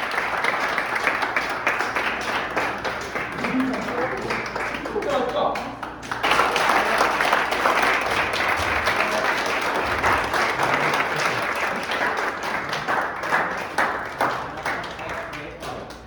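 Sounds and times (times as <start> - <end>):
group of people applauding: 0.0 - 16.0.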